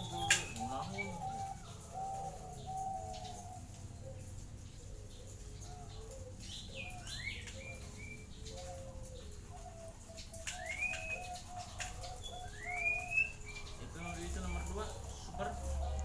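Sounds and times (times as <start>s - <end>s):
birds chirping: 0.0s - 16.0s
doves cooing: 0.0s - 16.0s.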